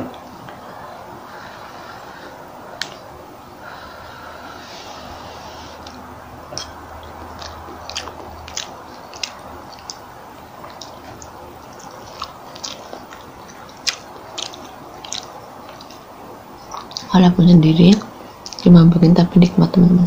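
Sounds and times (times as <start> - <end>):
person chewing food: 1.2 - 17.1, 17.9 - 18.7.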